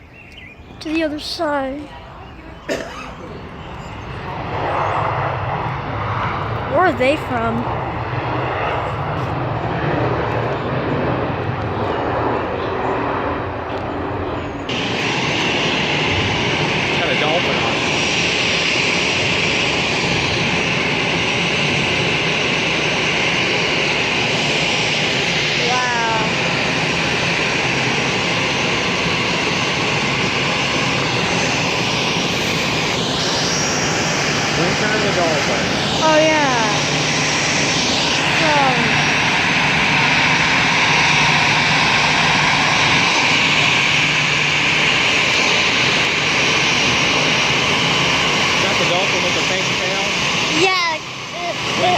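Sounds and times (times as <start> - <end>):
jet engines humming: 0.0 - 51.9.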